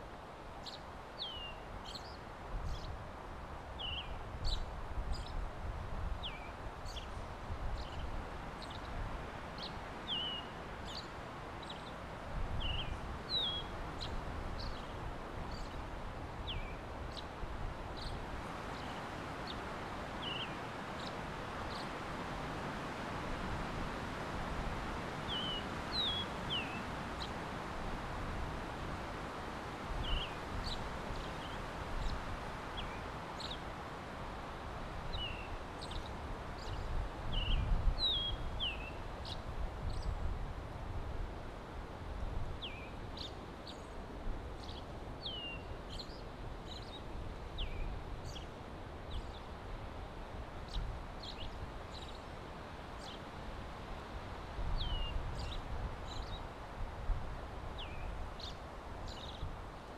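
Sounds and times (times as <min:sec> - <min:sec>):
wind through trees: 0:00.0 - 0:59.9.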